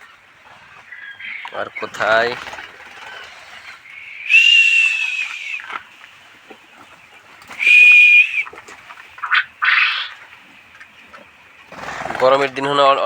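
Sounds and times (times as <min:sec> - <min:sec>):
quail calling: 0:00.0 - 0:13.0.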